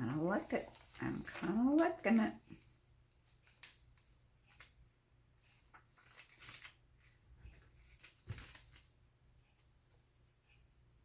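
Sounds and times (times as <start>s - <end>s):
paper rustling: 0.0s - 10.9s
soft handling noises: 0.2s - 11.0s.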